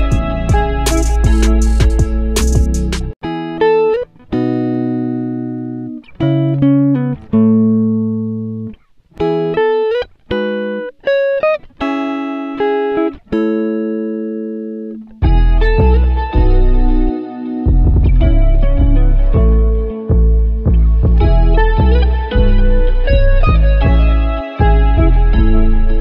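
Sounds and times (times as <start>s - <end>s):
slow relaxing instrumental music: 0.0s - 26.0s.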